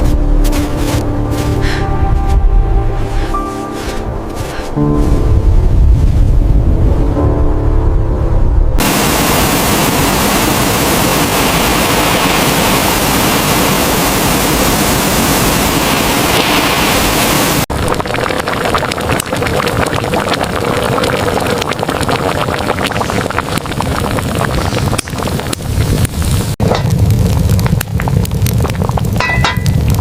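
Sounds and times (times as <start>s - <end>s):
gusting wind with crackling: 0.0s - 30.0s
rushing blizzard wind: 0.0s - 30.0s.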